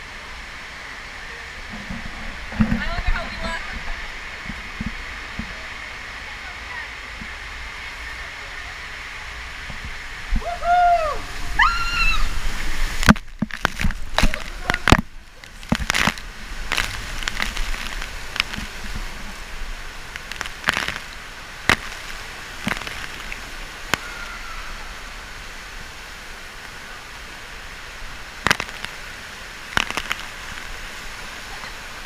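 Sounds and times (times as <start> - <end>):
water-park rushing noise: 0.0 - 32.0.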